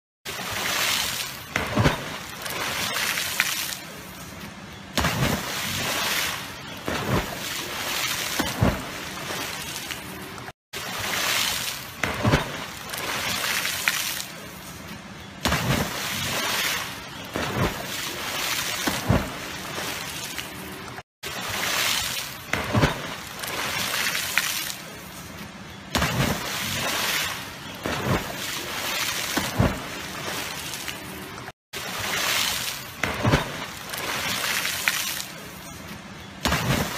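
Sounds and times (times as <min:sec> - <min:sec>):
water sloshing and spraying: 0:00.3 - 0:36.9.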